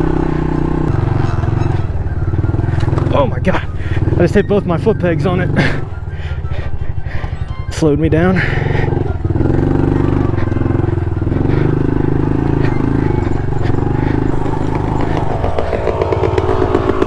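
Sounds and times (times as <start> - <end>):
small motorcycle engine under load: 0.0 - 17.0.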